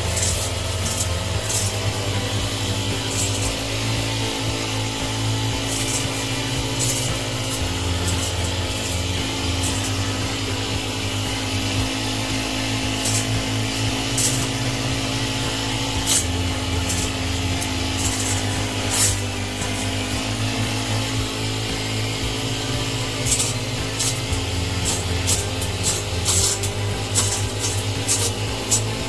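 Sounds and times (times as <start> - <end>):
power trimmer motor running: 0.0 - 29.0
trimmer crackling through shrubs: 0.0 - 29.0.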